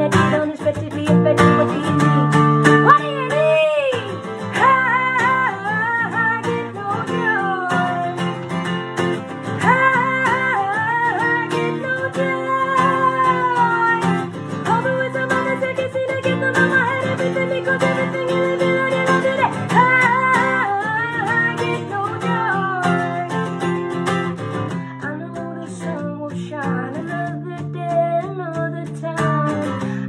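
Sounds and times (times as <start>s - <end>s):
acoustic guitar strumming: 0.0s - 30.0s
woman singing: 0.0s - 30.0s.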